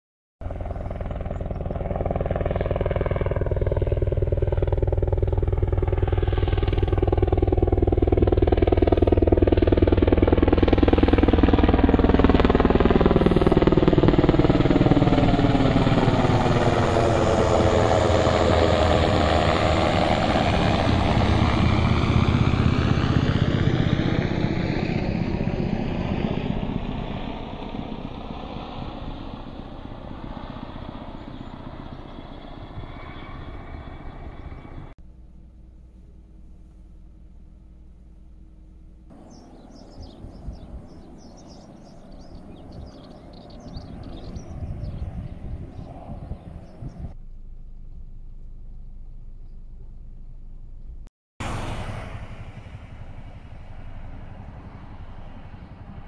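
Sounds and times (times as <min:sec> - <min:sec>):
helicopter flying overhead: 0:00.4 - 0:48.2, 0:48.9 - 0:56.0.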